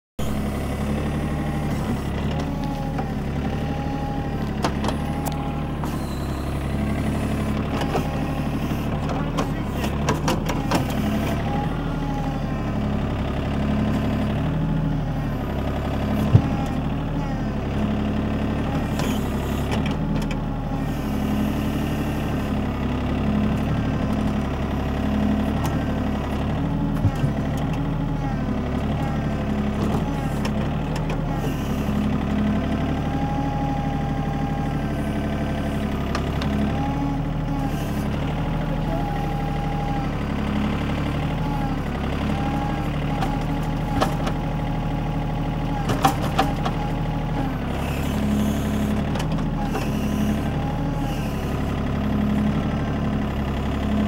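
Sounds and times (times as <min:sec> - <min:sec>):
tractor engine running: 0:00.2 - 0:54.0.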